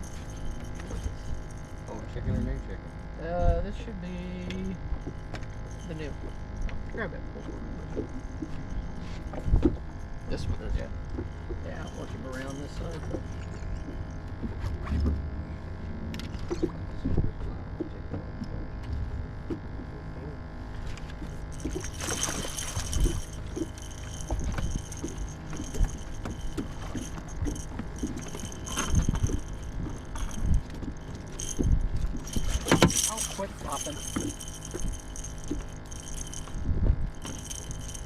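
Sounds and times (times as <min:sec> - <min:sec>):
fishing boat engine hum: 0:00.0 - 0:38.0
knocks and thumps on boat: 0:04.4 - 0:15.4, 0:16.2 - 0:20.0, 0:20.6 - 0:38.0.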